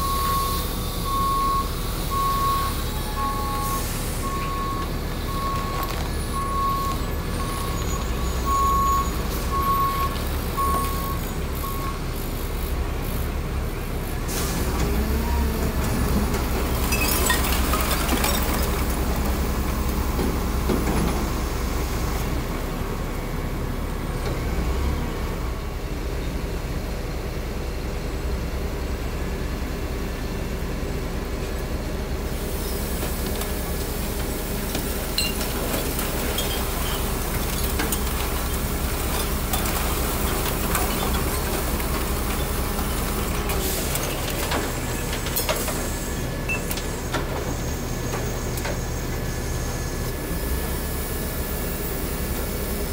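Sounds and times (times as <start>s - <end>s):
garbage truck engine drone: 0.0s - 52.9s.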